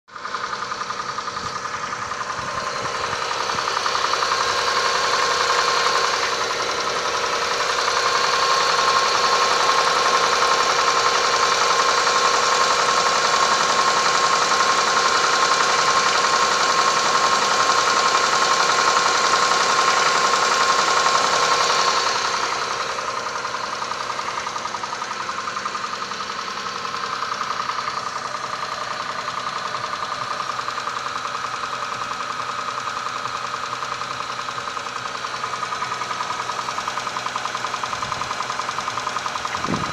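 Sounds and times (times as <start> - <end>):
engine running with fast knock: 0.1 - 39.9.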